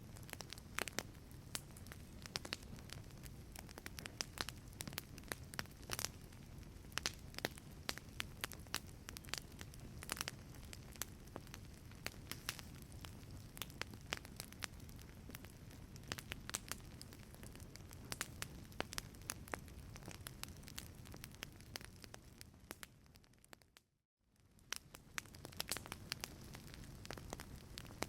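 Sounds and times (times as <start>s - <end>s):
wood fire crackling: 0.0s - 23.8s, 24.4s - 28.0s
fire pops and snaps: 0.1s - 28.0s.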